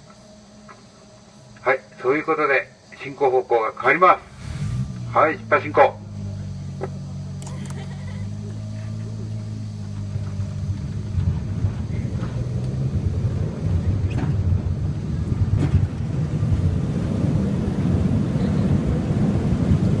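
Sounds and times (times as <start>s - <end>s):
rail cart engine running: 0.0s - 20.0s.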